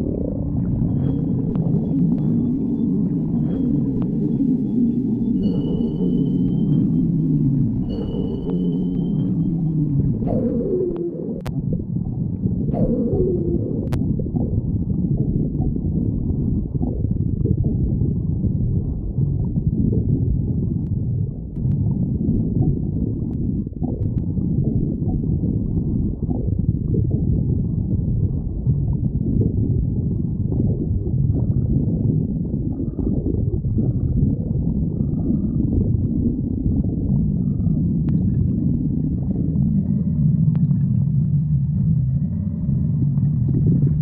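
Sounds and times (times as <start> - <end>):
stomach growling and gurgling: 0.0 - 44.0.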